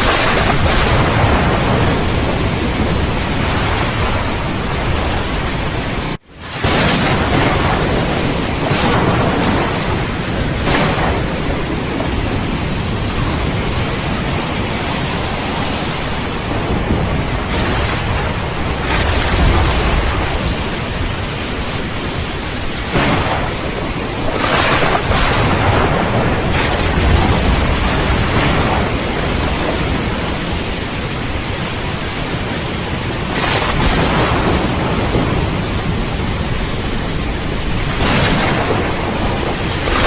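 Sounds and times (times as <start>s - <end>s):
steady rain: 0.0s - 40.0s
thunder rumbling and cracking: 0.0s - 40.0s.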